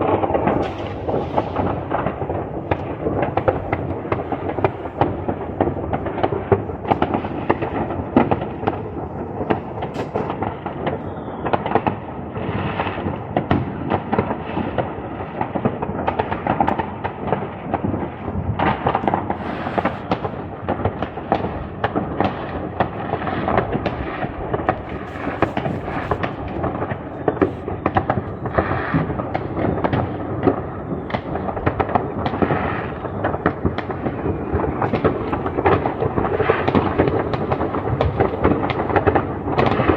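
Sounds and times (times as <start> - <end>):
fireworks crackling: 0.0 - 39.9
rumble of distant explosions: 0.0 - 39.9.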